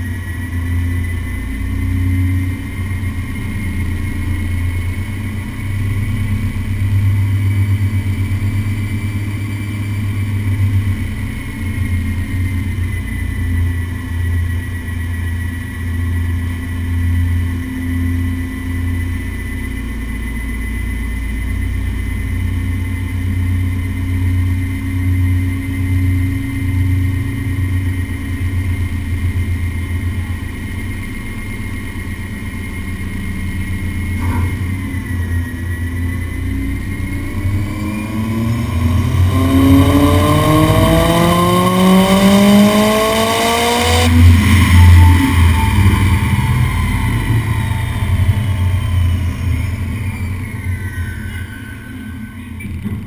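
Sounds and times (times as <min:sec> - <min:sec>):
thin steady high tone: 0:00.0 - 0:52.7
car engine on dyno: 0:00.0 - 0:53.0.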